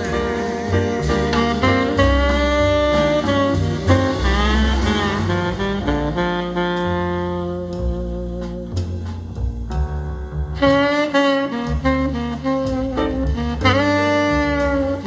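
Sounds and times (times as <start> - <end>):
jazz saxophone solo: 0.0 - 15.0
low bass notes: 0.0 - 15.0.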